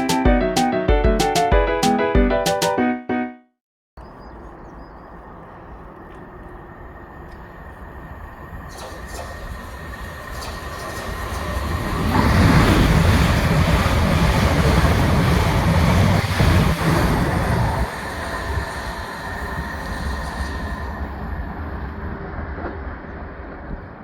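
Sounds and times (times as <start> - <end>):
train rumbling past: 4.0 - 24.0.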